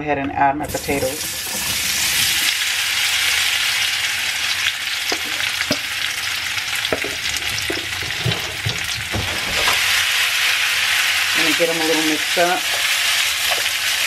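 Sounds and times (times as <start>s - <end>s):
potatoes sizzling in hot oil: 0.7s - 14.0s.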